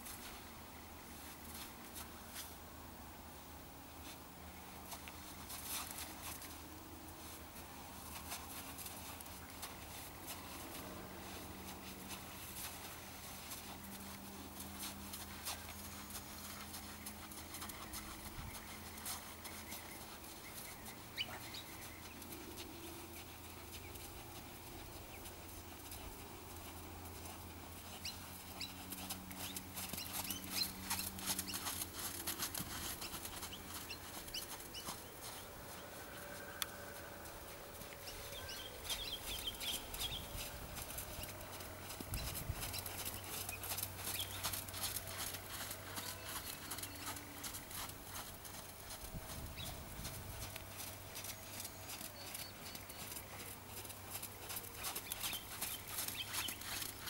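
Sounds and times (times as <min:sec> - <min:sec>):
horse hoofbeats on sand: 0:07.5 - 0:57.0.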